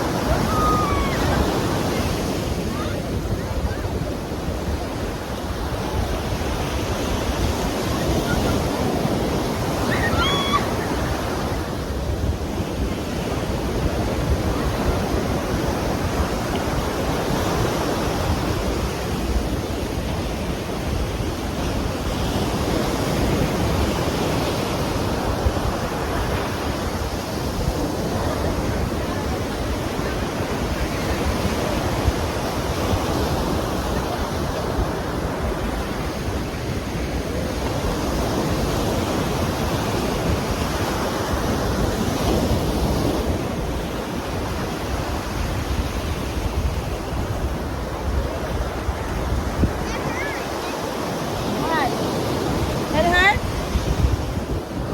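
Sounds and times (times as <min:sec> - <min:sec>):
ocean surf breaking: 0:00.0 - 0:54.9
wind on microphone: 0:00.0 - 0:54.9.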